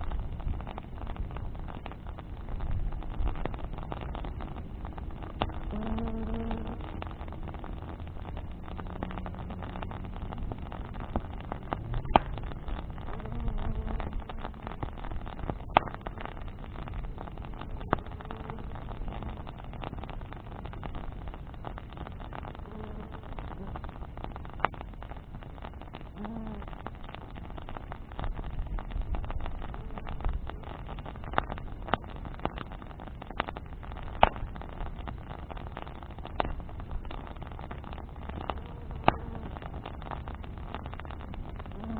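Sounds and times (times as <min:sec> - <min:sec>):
bonfire crackling and popping: 0:00.0 - 0:41.9
loud snap of fire: 0:00.0 - 0:41.9
low steady rumble: 0:00.0 - 0:41.9.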